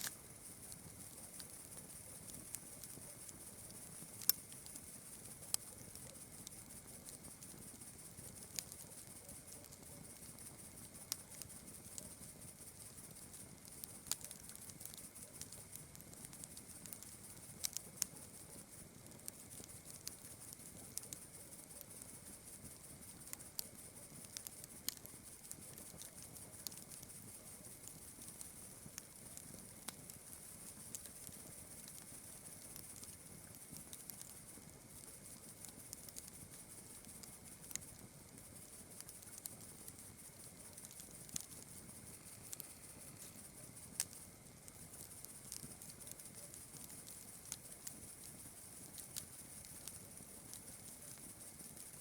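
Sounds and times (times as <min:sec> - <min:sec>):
campfire crackling: 0:00.0 - 0:52.0
crickets chirring: 0:00.0 - 0:52.0.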